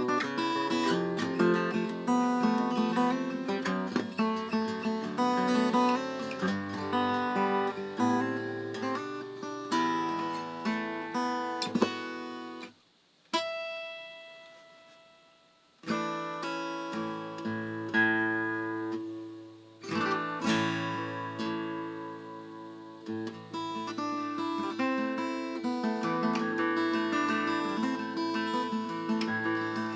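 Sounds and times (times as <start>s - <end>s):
acoustic guitar chords: 0.0s - 29.9s.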